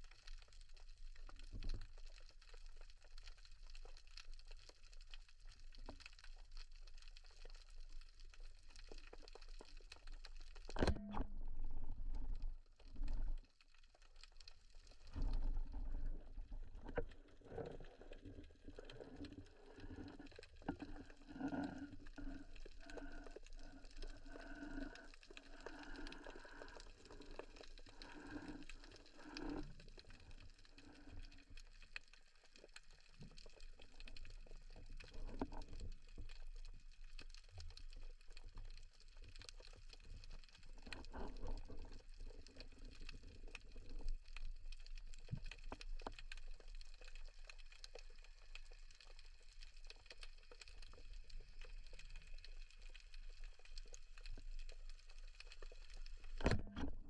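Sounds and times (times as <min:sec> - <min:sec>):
underwater clicks and crackles: 0:00.0 - 0:57.0.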